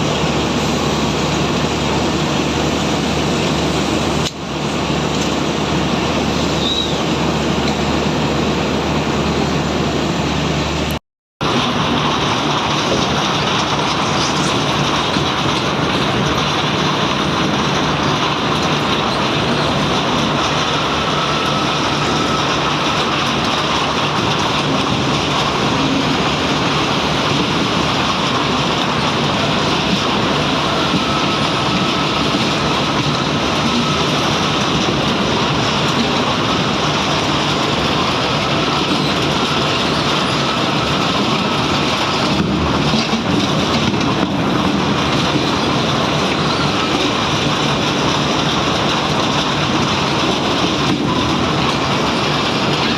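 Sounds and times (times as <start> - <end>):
diesel engine rumbling: 0.0 - 52.9
rushing noise: 0.0 - 52.9.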